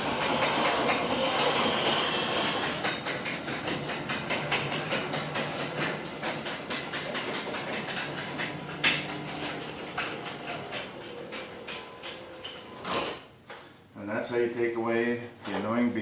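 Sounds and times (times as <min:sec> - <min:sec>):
door rollers clacking: 0:00.0 - 0:13.3
garage door opener motor hum: 0:00.0 - 0:13.4.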